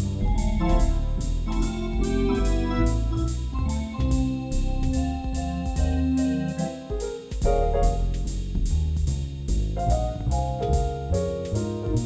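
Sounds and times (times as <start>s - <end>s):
piano-like chords: 0.0s - 8.2s, 9.8s - 12.0s
low bass line: 0.0s - 12.0s.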